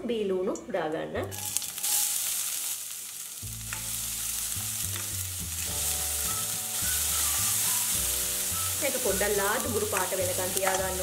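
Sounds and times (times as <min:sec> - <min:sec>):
onions sizzling in hot oil: 0:01.3 - 0:11.0.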